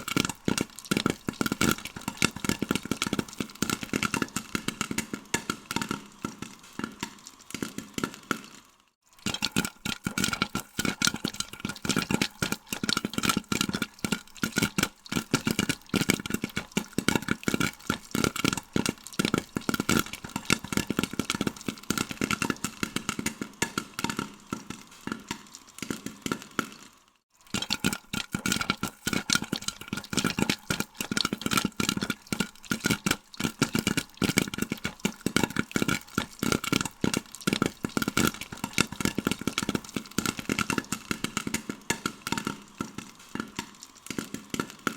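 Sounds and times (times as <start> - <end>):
popcorn popping: 0.0 - 44.9.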